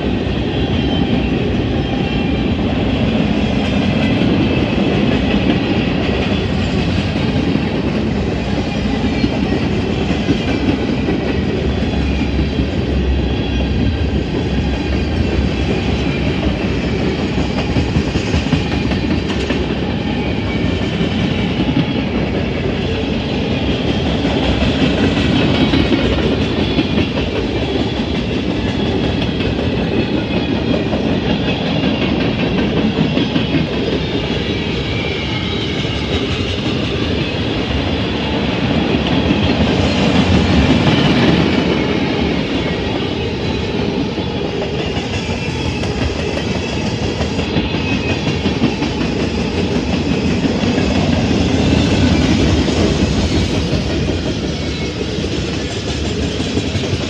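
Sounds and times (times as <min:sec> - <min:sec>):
freight train cars rolling past: 0:00.0 - 0:57.0.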